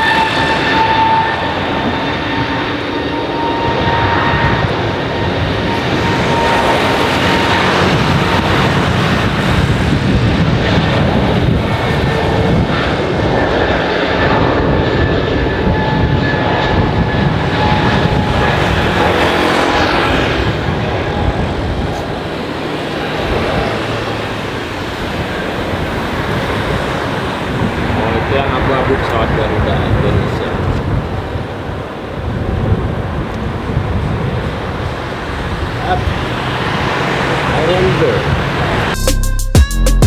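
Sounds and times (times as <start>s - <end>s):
faint engine whine: 0.0s - 39.0s
jet engines running at high power: 0.0s - 39.0s.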